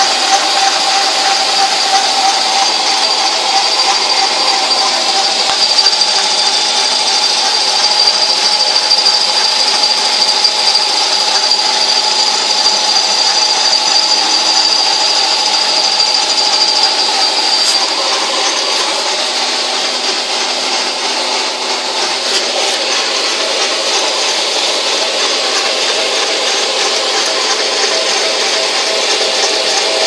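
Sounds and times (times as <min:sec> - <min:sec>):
metal lathe turning steel pipe: 0:00.0 - 0:30.0.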